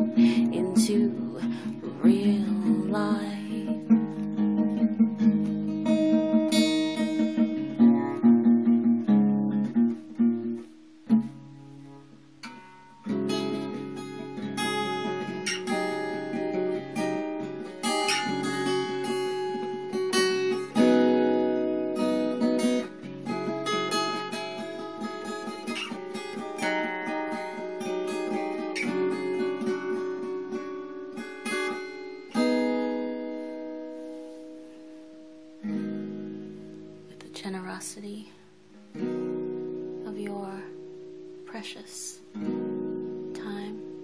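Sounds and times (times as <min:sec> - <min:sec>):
acoustic guitar playing chords: 0:00.0 - 0:44.0.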